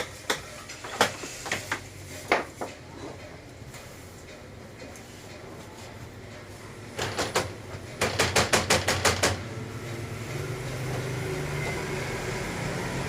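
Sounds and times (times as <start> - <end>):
air conditioner fan hum: 0.0 - 13.0.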